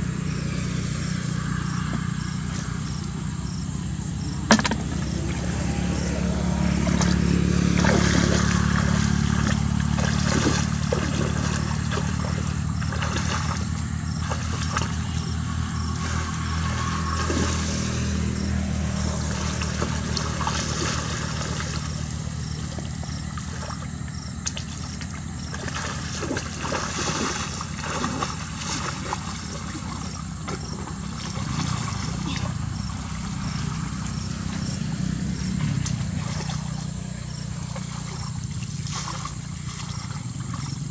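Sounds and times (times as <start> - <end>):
low motor-like hum: 0.0 - 40.9
water sloshing and splashing: 0.5 - 40.9.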